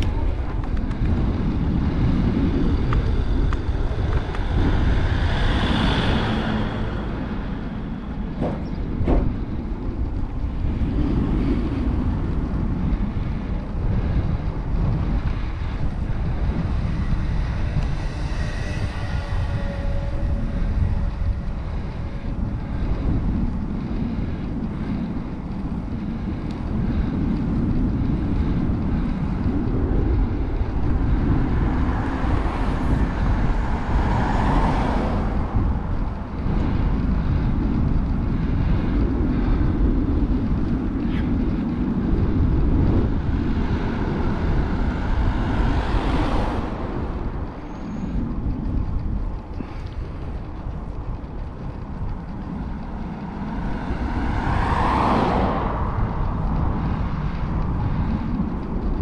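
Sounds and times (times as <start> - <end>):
road noise: 0.0 - 59.0
vehicles passing: 0.0 - 59.0
wind on microphone: 0.0 - 59.0.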